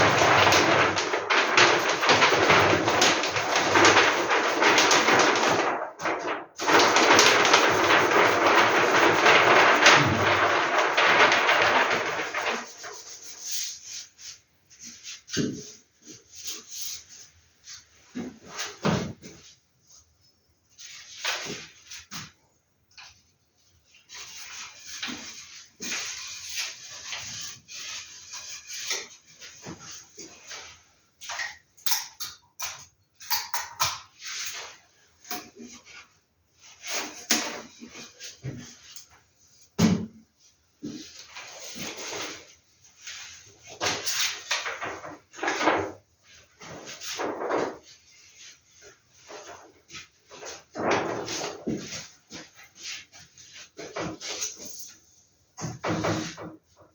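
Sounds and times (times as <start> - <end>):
paper posters rustling: 0.0 - 31.8, 34.0 - 56.9.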